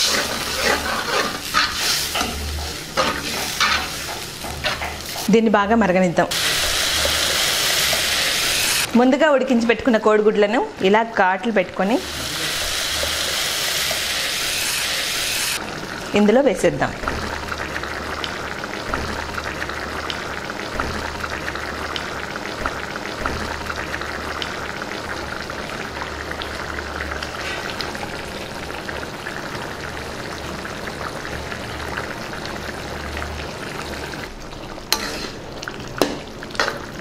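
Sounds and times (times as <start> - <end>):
gravy bubbling and sizzling: 0.0 - 37.0.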